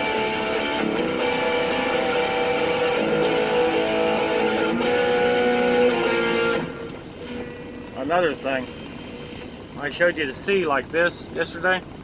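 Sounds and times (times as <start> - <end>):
distorted electric guitar chords: 0.0 - 9.8.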